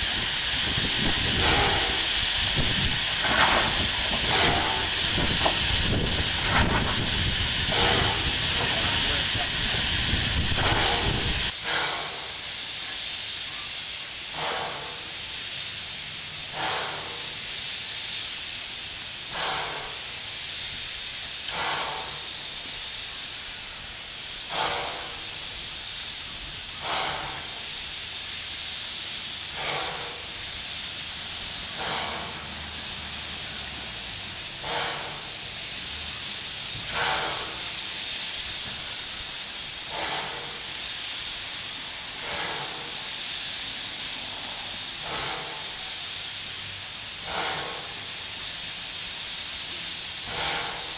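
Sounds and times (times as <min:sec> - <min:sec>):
steam hissing: 0:00.0 - 0:50.9
steam puffs: 0:00.0 - 0:50.9.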